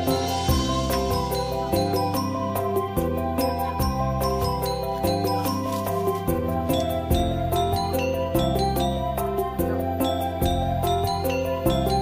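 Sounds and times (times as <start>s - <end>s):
tinkling bell-like melody: 0.0s - 12.0s.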